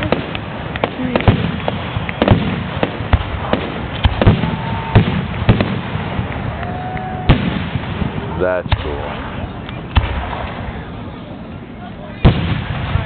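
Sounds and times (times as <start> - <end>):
fireworks booming and cracking: 0.0 - 11.2, 12.1 - 13.0
firework whistling: 0.0 - 11.3.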